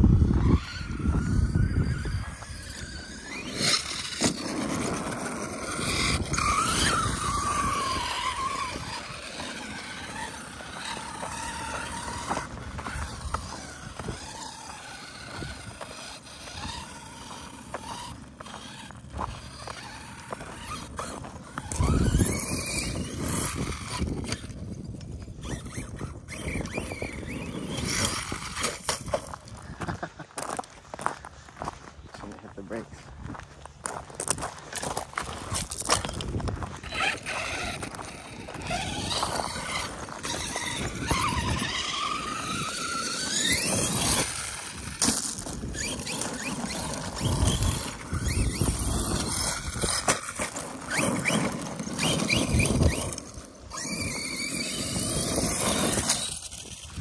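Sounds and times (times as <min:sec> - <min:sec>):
electric motor whining: 0:00.0 - 0:30.0, 0:34.7 - 0:57.0
tyres crunching on gravel: 0:00.2 - 0:57.0.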